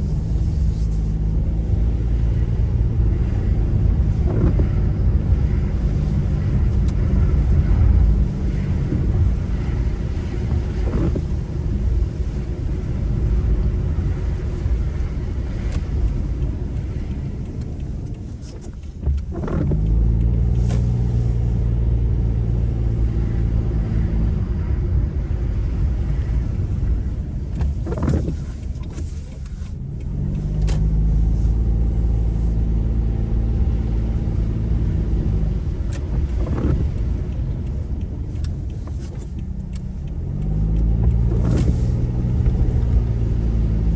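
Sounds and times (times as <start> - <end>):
car engine and tyre rumble: 0.0 - 43.9
rain: 0.0 - 43.9.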